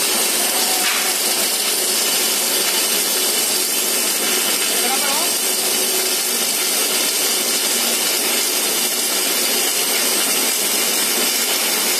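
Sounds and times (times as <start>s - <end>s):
arc welding hiss: 0.0s - 11.9s.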